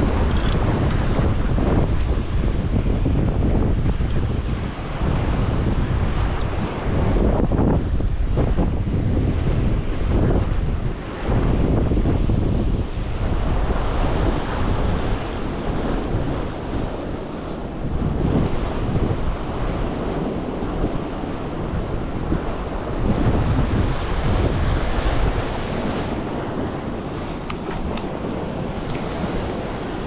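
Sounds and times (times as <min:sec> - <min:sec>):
sea swell washing against rock: 0:00.0 - 0:30.0
wind buffeting microphone: 0:00.0 - 0:30.0.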